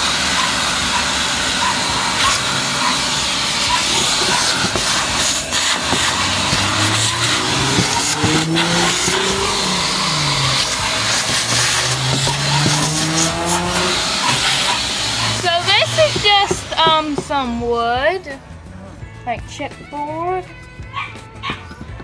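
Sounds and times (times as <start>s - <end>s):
vacuum cleaner running: 0.0s - 17.7s.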